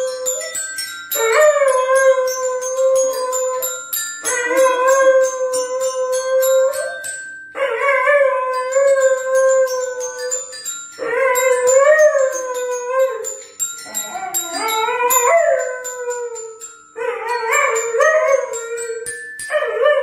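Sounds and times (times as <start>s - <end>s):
toy xylophone notes: 0.0s - 20.0s.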